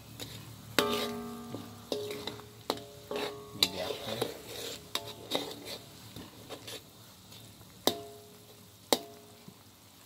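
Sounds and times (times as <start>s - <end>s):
metal spatula scraping a wok: 0.0s - 9.3s
soft sizzle: 0.0s - 10.0s.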